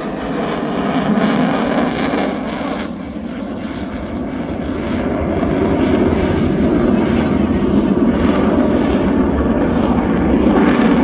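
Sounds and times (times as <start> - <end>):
fighter jet engine noise: 0.0 - 11.0.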